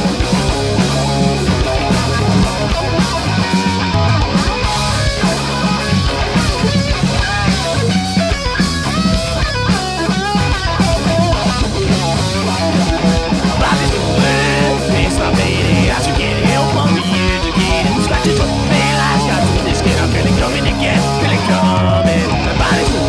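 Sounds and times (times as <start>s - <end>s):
punk rock band playing live: 0.0s - 23.0s.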